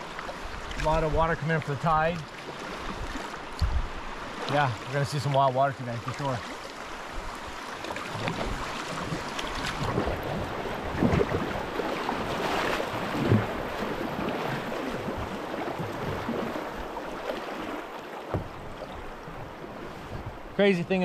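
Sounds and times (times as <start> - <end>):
tidal water rushing and splashing: 0.0 - 21.0.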